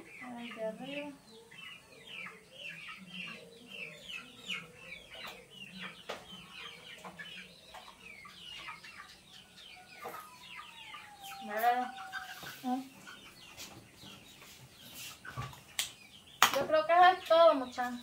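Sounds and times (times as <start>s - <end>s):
chickens chirping: 0.0s - 18.0s.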